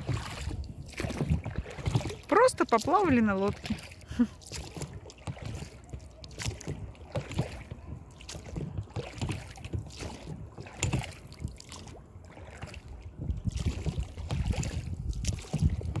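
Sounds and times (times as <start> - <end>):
water lapping against boat hull: 0.0 - 16.0
wind rumbling on microphone: 0.0 - 16.0.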